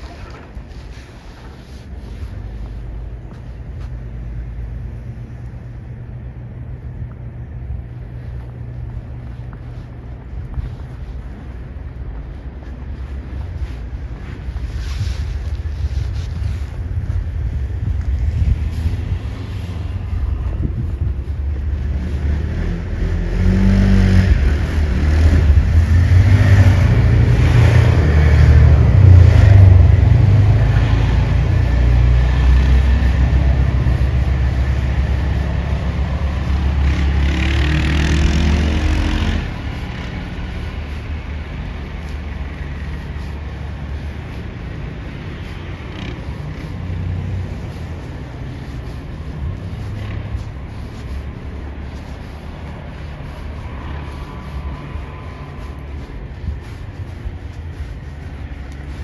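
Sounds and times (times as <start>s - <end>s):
vehicle engine running: 0.0s - 59.0s
wind buffeting microphone: 0.0s - 59.0s.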